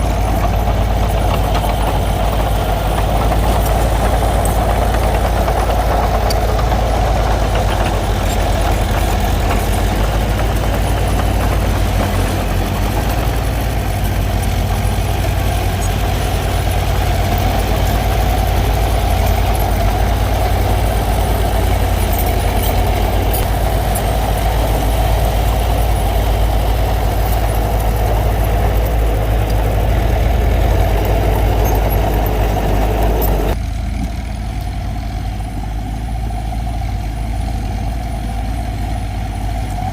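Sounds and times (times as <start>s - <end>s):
diesel bulldozer engine rumbling: 0.0s - 39.9s.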